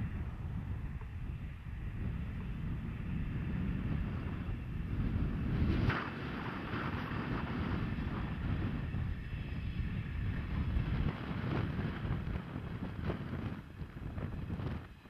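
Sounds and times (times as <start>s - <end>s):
train engine and wheels rumbling: 0.0s - 15.0s
wind buffeting microphone: 0.0s - 15.0s.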